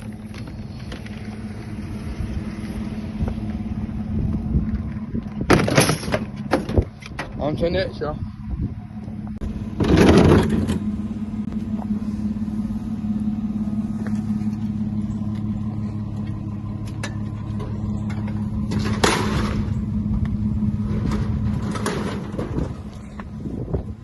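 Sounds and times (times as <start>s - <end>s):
road noise: 0.0s - 24.0s
truck engine hum: 0.0s - 24.0s.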